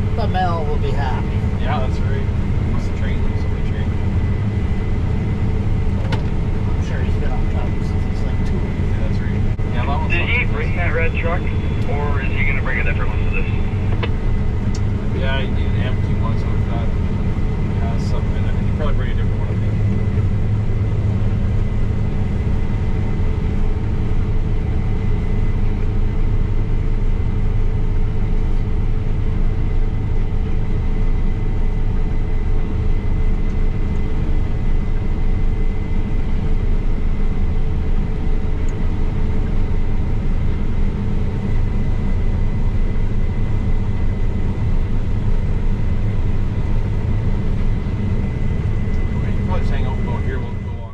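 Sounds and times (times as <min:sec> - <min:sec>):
high whine: 0:00.0 - 0:50.9
low engine drone: 0:00.0 - 0:50.9.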